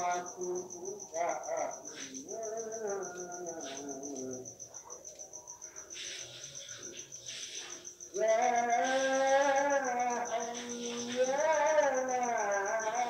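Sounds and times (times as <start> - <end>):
man chanting: 0.0 - 4.6, 5.8 - 13.0
cricket chirping: 0.0 - 13.0.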